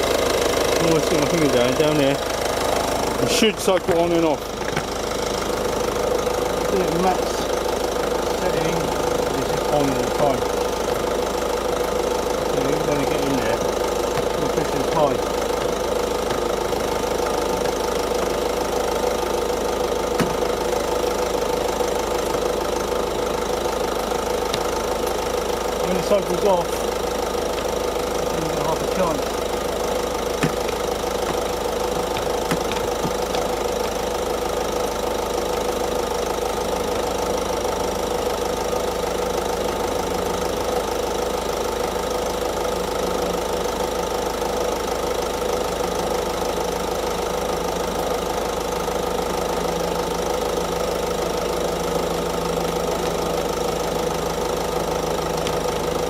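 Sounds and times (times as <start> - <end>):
air conditioning running: 0.0 - 56.0
diesel engine idling: 0.0 - 56.0.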